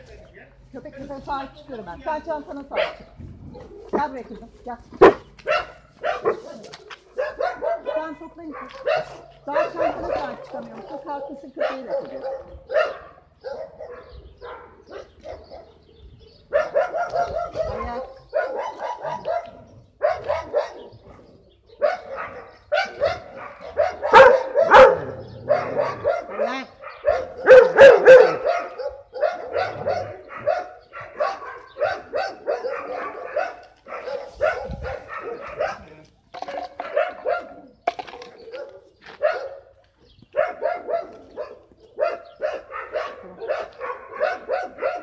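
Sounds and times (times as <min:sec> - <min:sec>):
dog barking: 0:02.7 - 0:04.1, 0:05.0 - 0:45.0.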